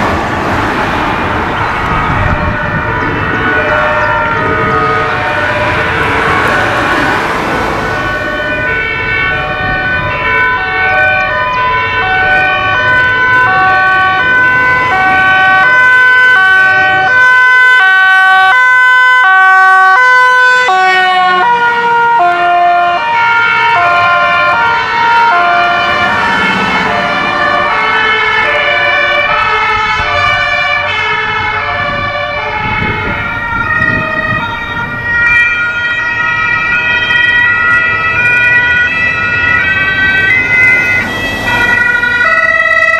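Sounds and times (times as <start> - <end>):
vehicle engine: 0.0 - 18.0, 19.5 - 42.9
road noise: 0.0 - 42.9
two-tone emergency sirens: 0.0 - 42.9.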